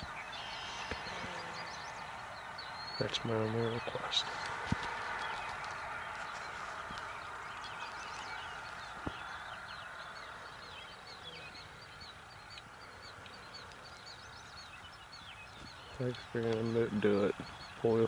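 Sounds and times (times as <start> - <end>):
outdoor hiss: 0.0 - 18.0
small birds chirping: 0.0 - 18.0.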